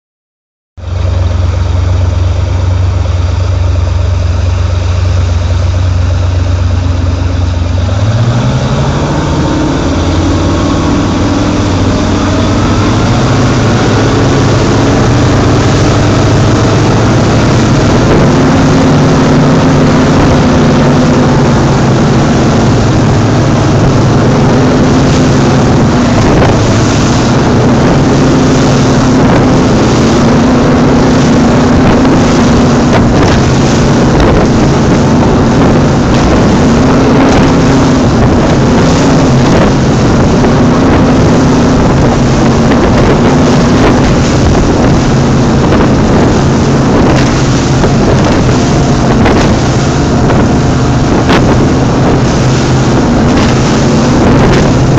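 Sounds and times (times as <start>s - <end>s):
powerboat engines running: 0.8s - 54.9s
water spray and churning wake: 0.8s - 54.9s
wind: 0.8s - 54.9s.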